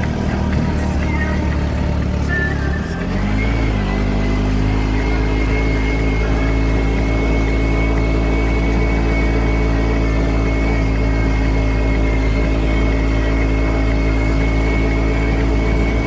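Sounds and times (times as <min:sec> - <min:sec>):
motorcycle engine running: 0:00.0 - 0:16.0
thin steady whine: 0:00.0 - 0:16.0.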